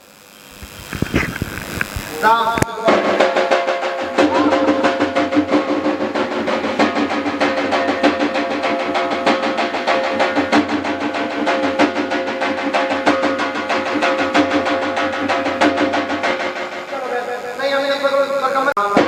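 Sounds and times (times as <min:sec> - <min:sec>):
steady held tones: 0:00.0 - 0:19.0
fast even drumbeat: 0:00.5 - 0:18.0.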